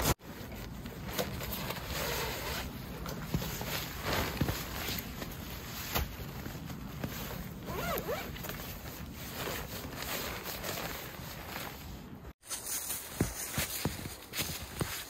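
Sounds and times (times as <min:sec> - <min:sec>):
rustling and scraping: 0:00.0 - 0:15.0.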